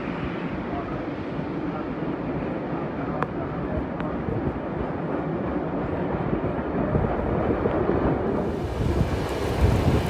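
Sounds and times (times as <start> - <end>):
rushing wind: 0.0 - 10.0
train wheels rumbling on rails: 0.0 - 10.0.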